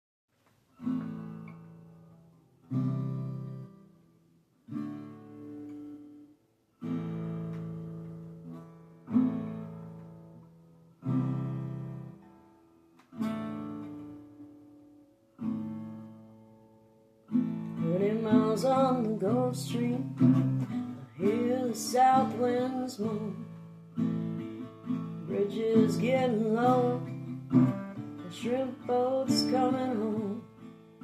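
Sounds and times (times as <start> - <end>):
acoustic guitar strummed chords: 0.8 - 31.0.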